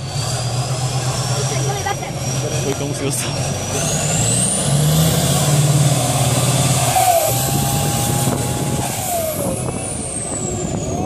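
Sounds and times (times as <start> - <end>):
high engine whine: 0.0 - 11.0
truck engine running hard: 0.0 - 11.0.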